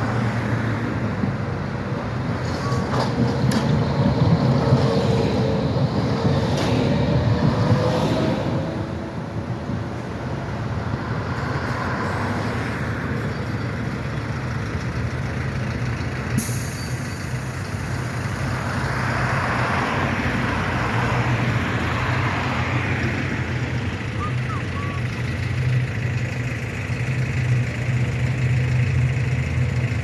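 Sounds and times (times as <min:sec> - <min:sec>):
heavy street traffic: 0:00.0 - 0:30.0.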